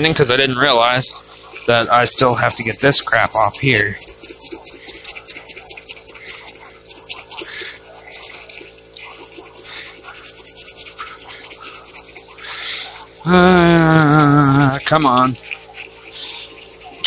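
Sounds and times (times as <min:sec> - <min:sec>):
sandpaper rubbing on filler: 0:00.0 - 0:17.0.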